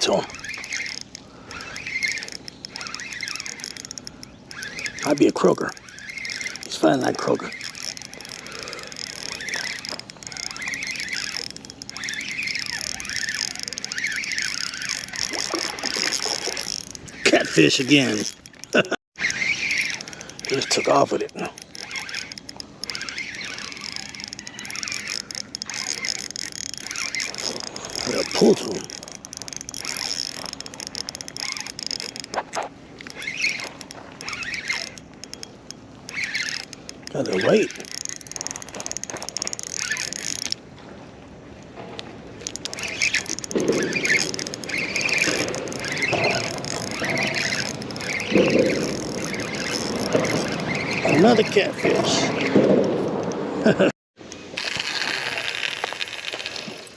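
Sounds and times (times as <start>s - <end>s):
fishing reel cranking: 0.0s - 40.6s, 42.4s - 53.4s, 54.3s - 56.9s
high squeaky chirps: 0.0s - 40.6s, 42.4s - 52.6s.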